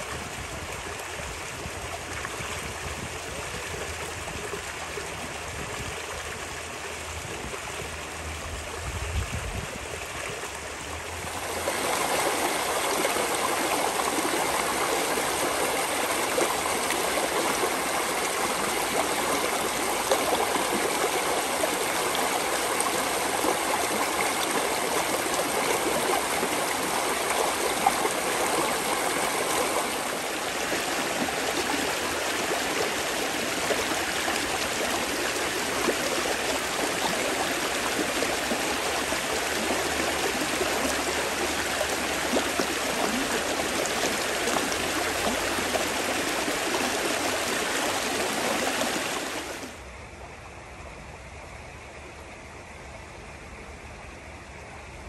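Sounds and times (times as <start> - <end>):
stream rushing over rocks: 0.0 - 49.8.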